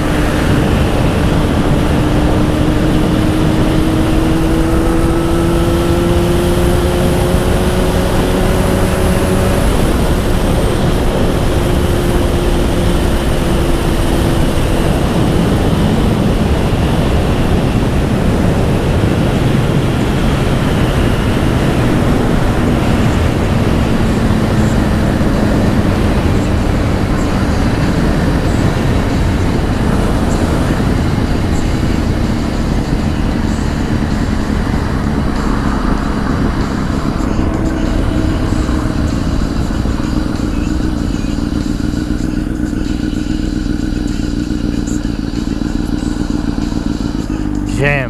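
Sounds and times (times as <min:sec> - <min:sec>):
wind rush: 0:00.0 - 0:40.5
motorcycle engine drone: 0:00.0 - 0:48.0.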